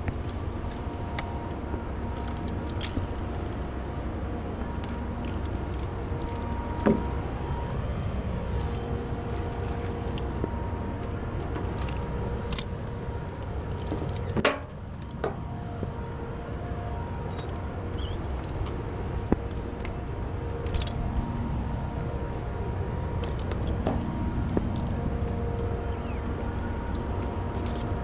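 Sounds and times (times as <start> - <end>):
distant city traffic: 0.0 - 28.0
wind rumble: 0.0 - 28.0.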